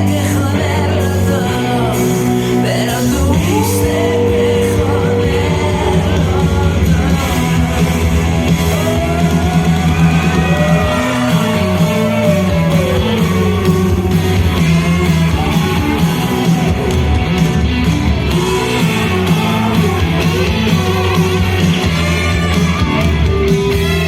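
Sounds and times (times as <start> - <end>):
bending lead melody: 0.0 - 24.0
rock band playing live: 0.0 - 24.0.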